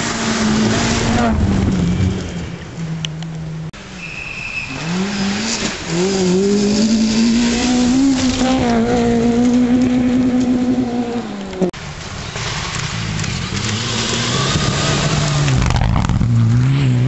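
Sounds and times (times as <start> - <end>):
rally car engine revving: 0.0 - 3.8, 4.5 - 17.0.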